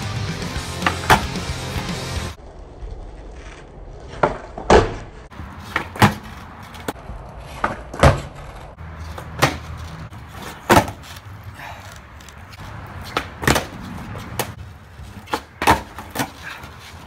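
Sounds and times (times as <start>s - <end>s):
skateboard cracking and landing: 0.7s - 1.6s, 2.8s - 11.3s, 12.2s - 17.0s.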